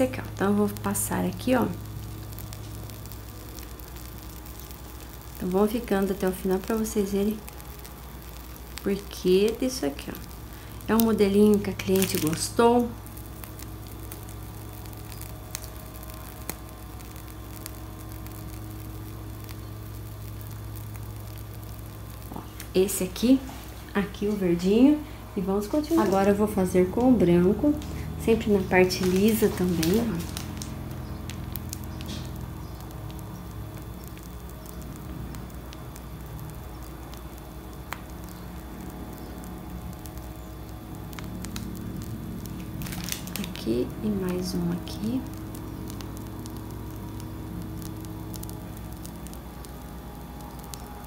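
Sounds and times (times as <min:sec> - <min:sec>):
background hiss: 0:00.0 - 0:51.0
low electrical hum: 0:00.0 - 0:51.0.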